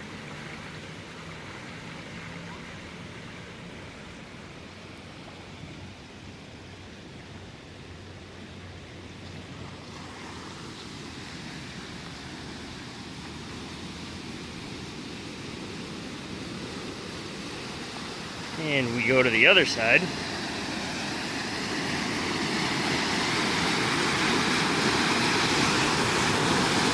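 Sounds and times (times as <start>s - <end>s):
floodwater rushing into culvert: 0.0s - 26.9s.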